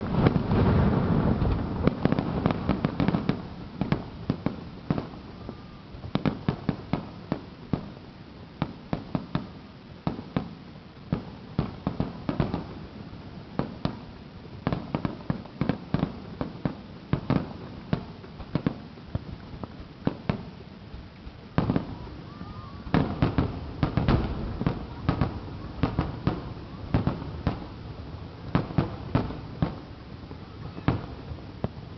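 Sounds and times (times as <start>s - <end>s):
fireworks cracks and pops: 0.0s - 31.9s
fireworks deep booms: 0.0s - 31.9s.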